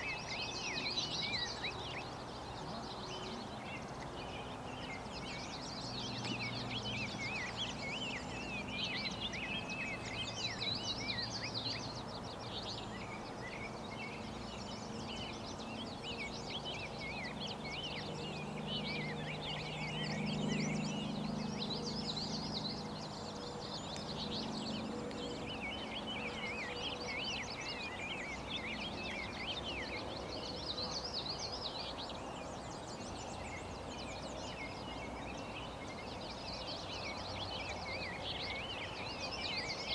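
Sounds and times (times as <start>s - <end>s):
outdoor background noise: 0.0s - 39.9s
songbirds chirping and singing: 0.0s - 39.9s.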